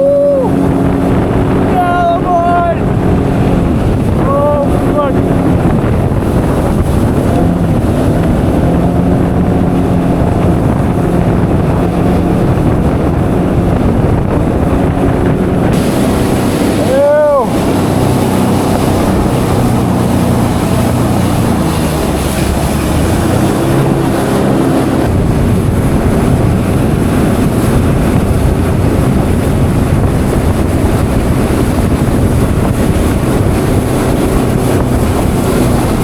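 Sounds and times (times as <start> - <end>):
jet ski engine: 0.0 - 36.0
wind buffeting microphone: 0.0 - 36.0.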